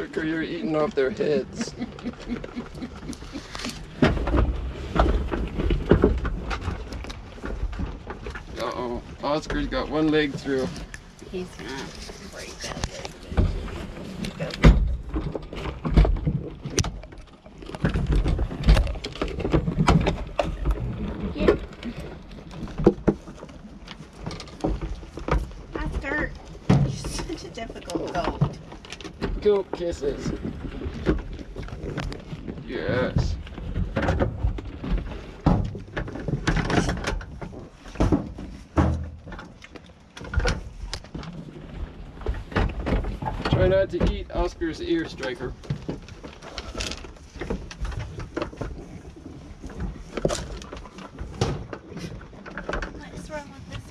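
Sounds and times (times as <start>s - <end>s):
clicks and rustles: 0.0s - 53.9s.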